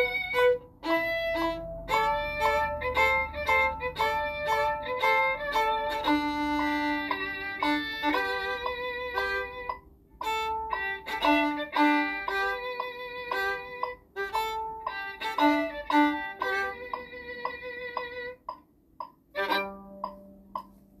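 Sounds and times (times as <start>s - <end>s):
violin melody: 0.0s - 20.7s.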